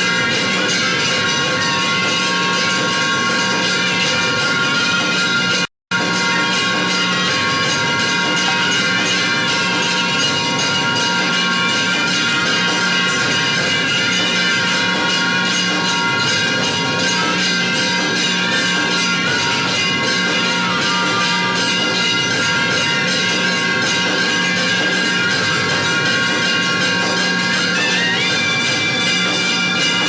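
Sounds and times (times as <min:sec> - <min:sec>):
percussion striking rapidly: 0:00.0 - 0:30.0
temple bells ringing: 0:00.0 - 0:30.0.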